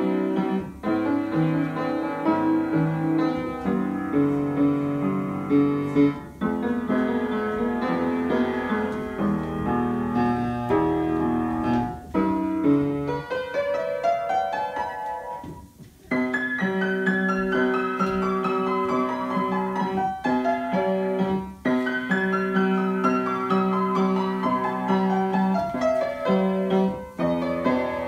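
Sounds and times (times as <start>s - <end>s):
upright piano melody: 0.0s - 28.0s.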